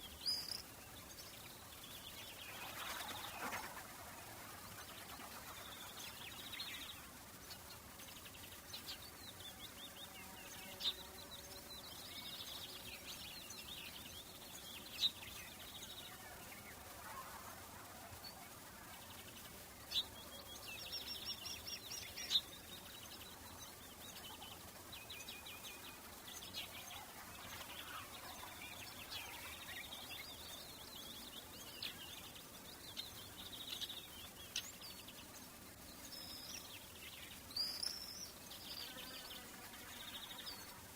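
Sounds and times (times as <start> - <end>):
faint steady background hiss: 0.0 - 40.9
small birds chirping and trilling: 0.0 - 40.9.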